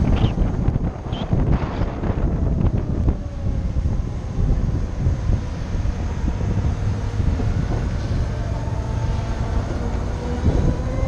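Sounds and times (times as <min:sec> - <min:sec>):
wind rumbling over microphone: 0:00.0 - 0:11.0.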